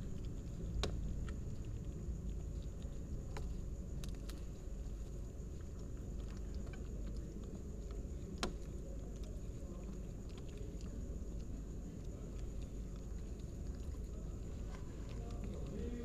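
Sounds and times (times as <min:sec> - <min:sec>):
cats chewing fish: 0:00.0 - 0:16.0.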